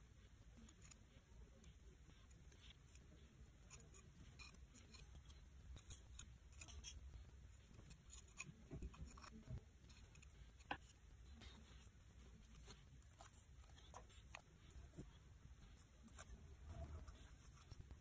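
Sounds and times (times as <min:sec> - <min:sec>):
spatula scraping and clicking: 0:00.6 - 0:18.0.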